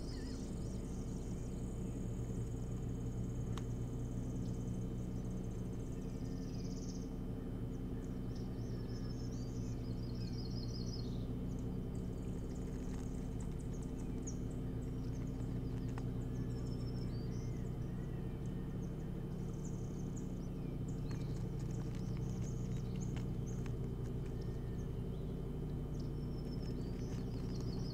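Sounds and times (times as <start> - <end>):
bird chirps and peeps: 0.0 - 27.9
steady low hum: 0.0 - 27.9.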